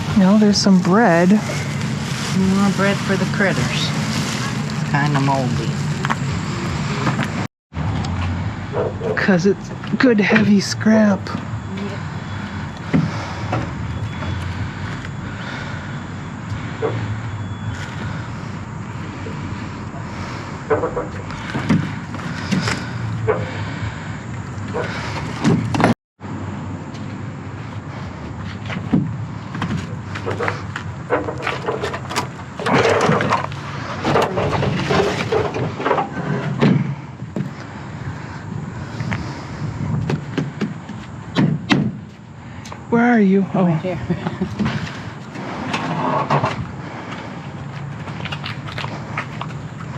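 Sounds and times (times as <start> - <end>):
vehicle low rumble: 0.0 - 49.9.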